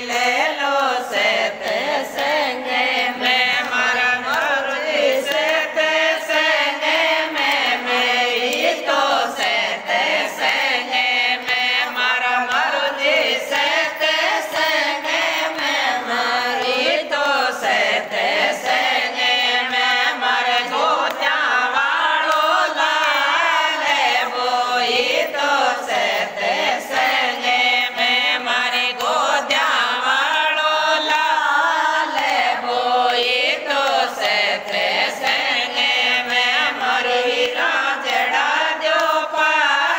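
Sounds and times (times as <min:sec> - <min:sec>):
rhythmic hand clapping: 0:00.0 - 0:39.9
women singing devotional song: 0:00.0 - 0:39.9.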